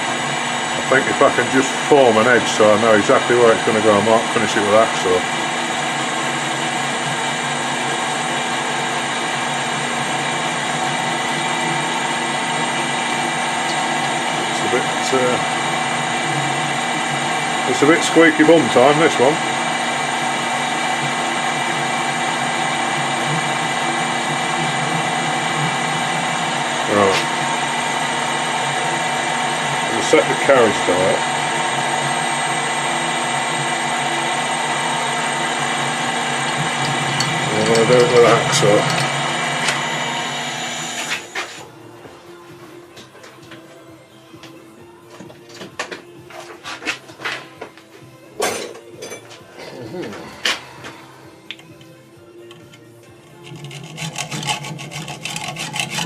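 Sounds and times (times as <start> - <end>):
metal lathe whining: 0.0 - 41.8, 49.5 - 56.0.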